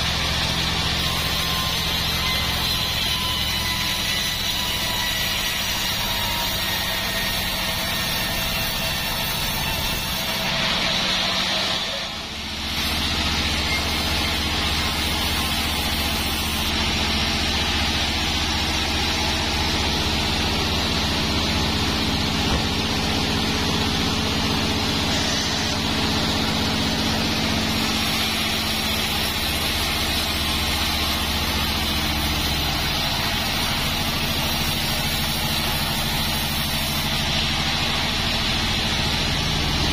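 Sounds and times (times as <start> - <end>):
sawmill mechanical drone: 0.0 - 39.9.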